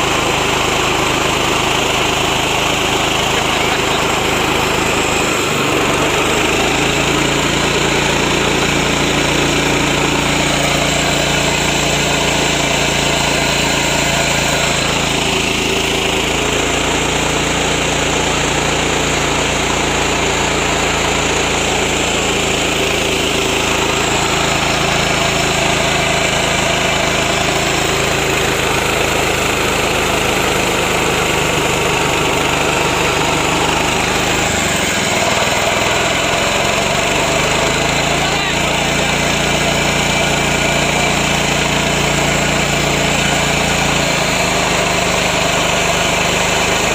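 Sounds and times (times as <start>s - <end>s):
milling machine engine running: 0.0s - 46.9s.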